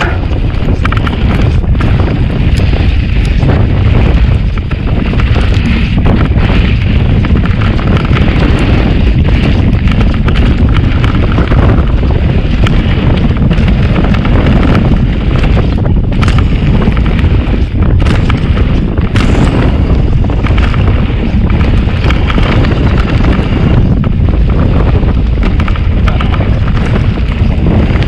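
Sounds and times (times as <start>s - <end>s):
bike rattling and knocking: 0.0s - 28.0s
tyre rumble on dirt: 0.0s - 28.0s
wind buffeting microphone: 0.0s - 28.0s.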